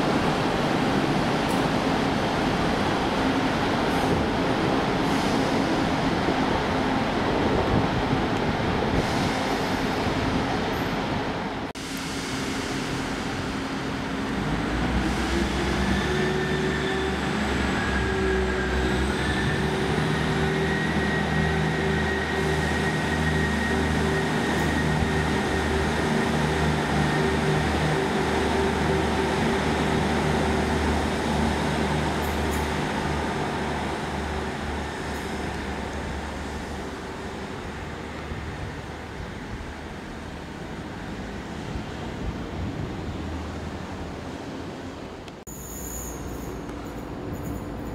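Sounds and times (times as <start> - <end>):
diesel train engine: 0.0 - 47.9.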